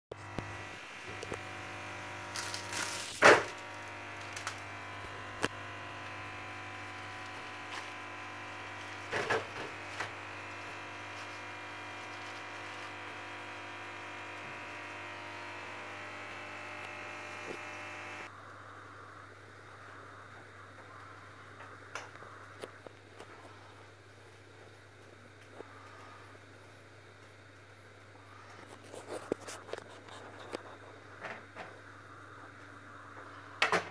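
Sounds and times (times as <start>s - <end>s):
appliance electric hum: 0.1s - 33.9s.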